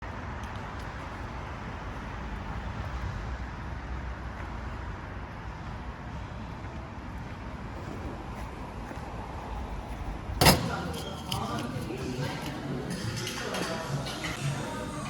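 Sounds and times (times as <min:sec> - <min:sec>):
traffic road noise: 0:00.0 - 0:15.0.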